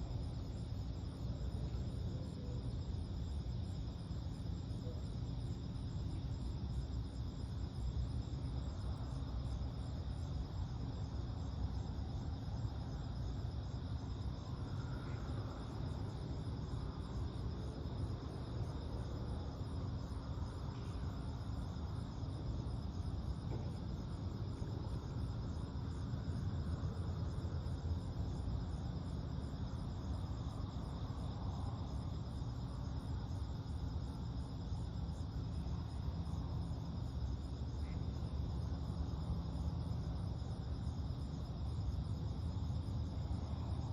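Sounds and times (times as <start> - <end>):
night insects trilling: 0.0 - 43.9.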